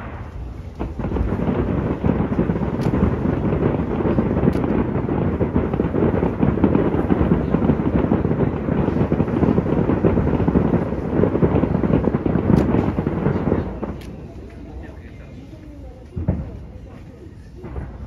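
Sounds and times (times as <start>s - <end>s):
distant fireworks rumble: 0.0s - 18.0s.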